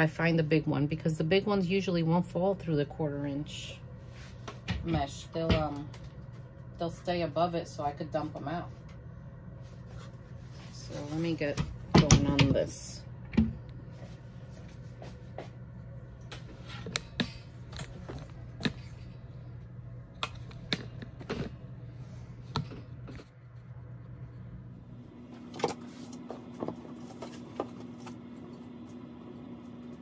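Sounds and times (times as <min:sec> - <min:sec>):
low hum: 0:00.2 - 0:30.0.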